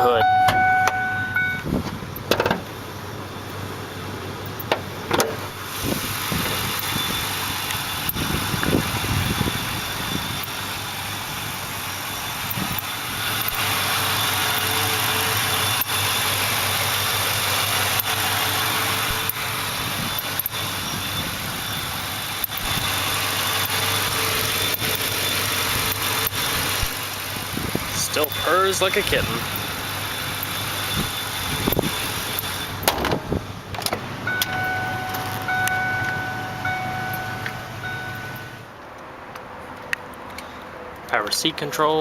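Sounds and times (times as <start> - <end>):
car engine idling: 0.0 - 41.6.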